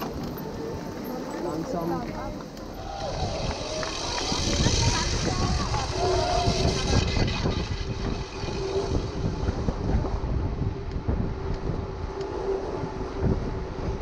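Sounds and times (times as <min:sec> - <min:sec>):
tyres humming on asphalt: 0:00.0 - 0:14.0
wind buffeting microphone: 0:00.0 - 0:14.0.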